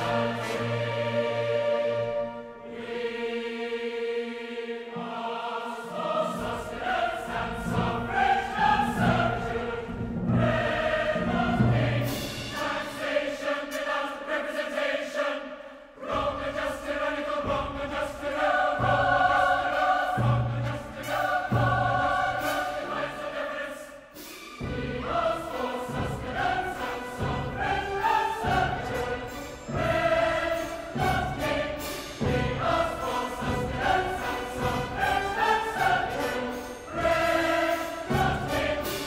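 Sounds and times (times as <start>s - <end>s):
choir singing with orchestra: 0.0s - 39.0s.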